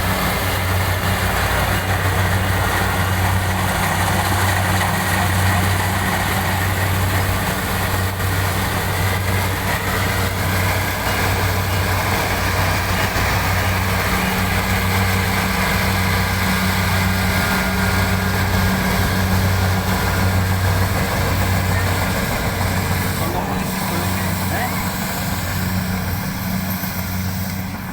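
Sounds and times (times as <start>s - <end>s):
combine harvester running: 0.0s - 27.9s.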